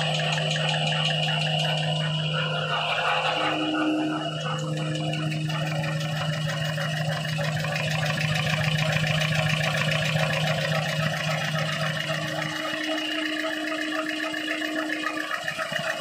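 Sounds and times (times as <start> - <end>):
fast mechanical clatter: 0.0 - 16.0
machine humming: 0.0 - 16.0.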